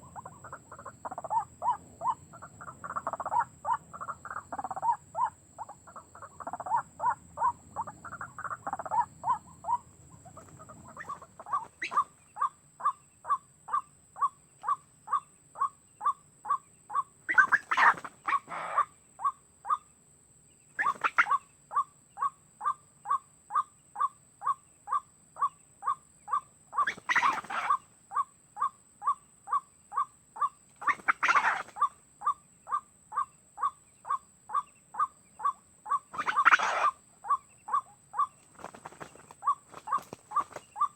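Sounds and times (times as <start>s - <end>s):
harsh bird calls: 0.0s - 19.8s, 20.8s - 22.3s, 25.4s - 40.9s.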